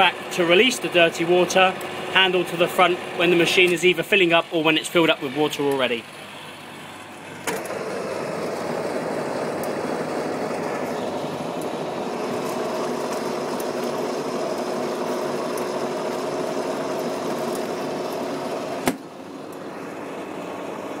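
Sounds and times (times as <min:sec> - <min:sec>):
washing machine motor humming: 0:00.0 - 0:21.0.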